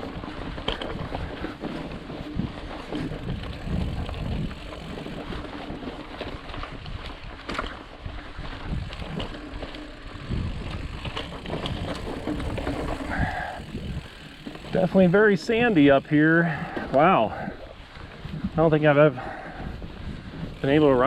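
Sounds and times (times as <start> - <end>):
bike clicks and rattles: 0.0 - 21.0
bike riding over rock and sand: 0.0 - 21.0
wind buffeting microphone: 0.0 - 21.0.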